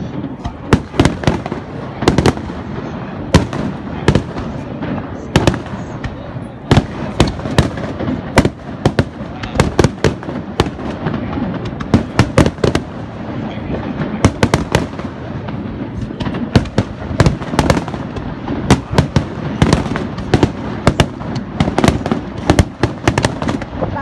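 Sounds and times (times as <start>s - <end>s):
firework bangs: 0.0s - 24.0s
firework crackling: 0.0s - 24.0s.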